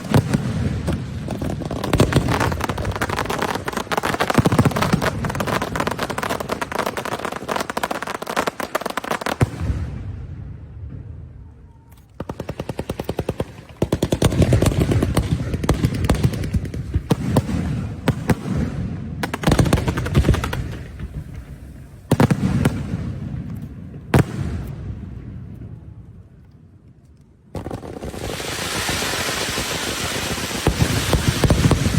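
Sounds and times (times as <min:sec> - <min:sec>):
firecrackers crackling: 0:00.0 - 0:10.8, 0:12.1 - 0:25.9, 0:27.4 - 0:31.9.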